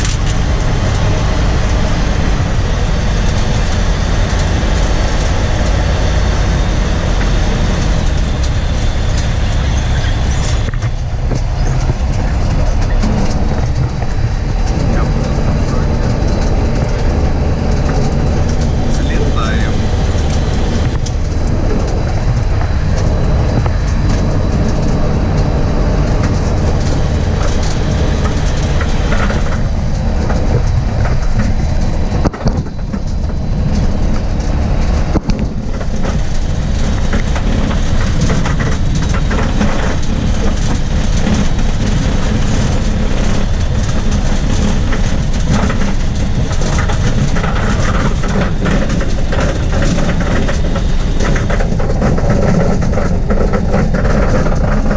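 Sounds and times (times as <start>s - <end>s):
light aircraft engine and propeller: 0.0s - 54.9s.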